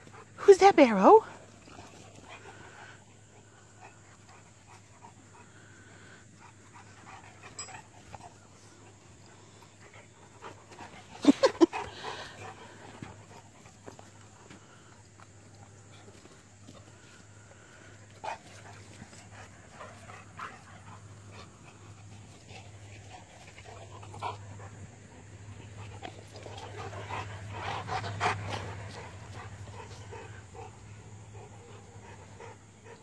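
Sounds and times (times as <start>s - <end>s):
dog panting: 0.0s - 33.0s
puppies playing: 0.0s - 33.0s.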